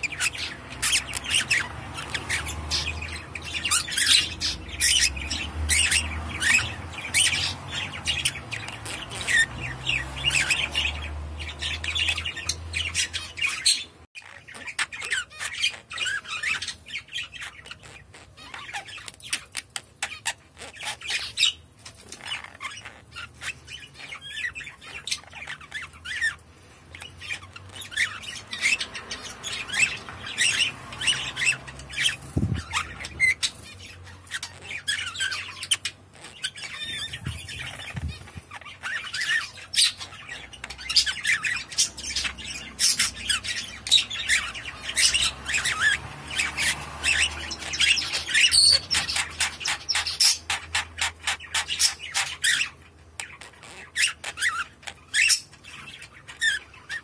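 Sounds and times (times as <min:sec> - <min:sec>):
budgerigar chattering: 0:00.0 - 0:57.0.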